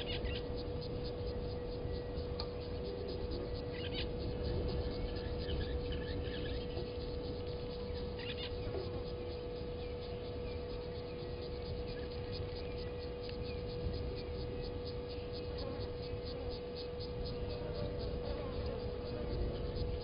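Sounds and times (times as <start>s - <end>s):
faint bird chirps: 0.0s - 20.0s
insect chirping in short pulses: 0.0s - 20.0s
steady hum: 0.0s - 20.0s.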